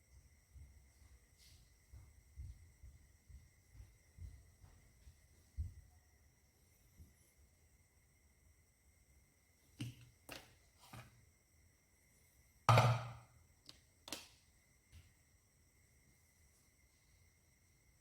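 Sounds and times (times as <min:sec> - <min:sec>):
faint high-pitched whine: 0:00.0 - 0:18.0.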